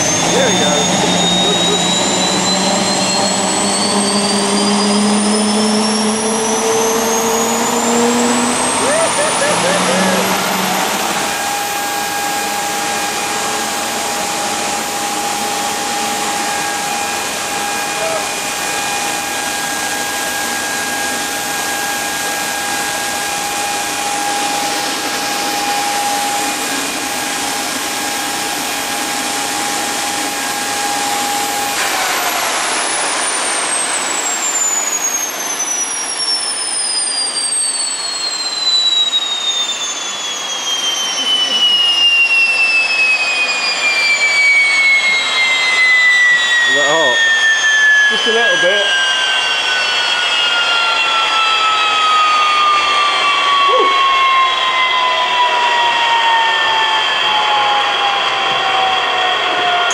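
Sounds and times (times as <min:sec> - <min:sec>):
jet engine running and spooling down: 0:00.0 - 0:59.9.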